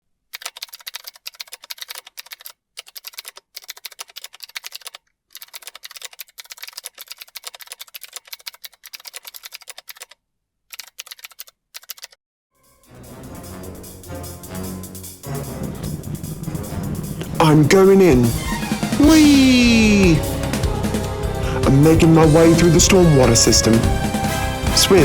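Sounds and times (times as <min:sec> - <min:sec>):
rapid keyboard typing: 0:00.3 - 0:12.2, 0:15.6 - 0:25.0.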